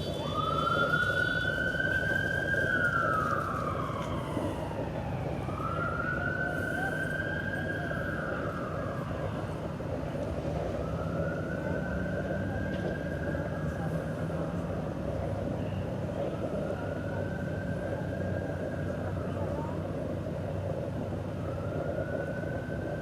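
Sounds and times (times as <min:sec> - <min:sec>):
emergency siren wailing: 0:00.0 - 0:23.0
engines and traffic rumble: 0:00.0 - 0:23.0.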